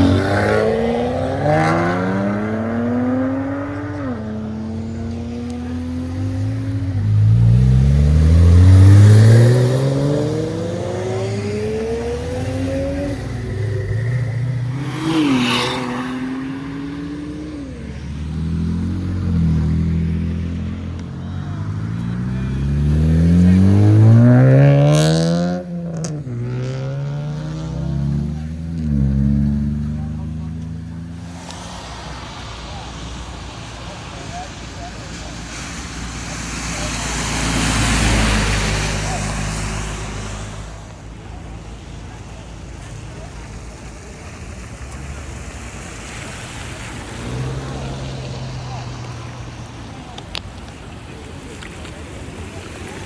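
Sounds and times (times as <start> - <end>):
cars accelerating hard: 0.0 - 53.0.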